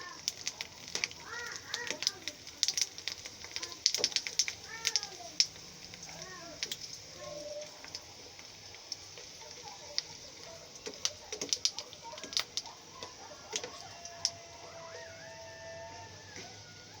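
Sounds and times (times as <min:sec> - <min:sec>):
crackles and pops in frying oil: 0:00.0 - 0:17.0
steady sizzle: 0:00.0 - 0:17.0.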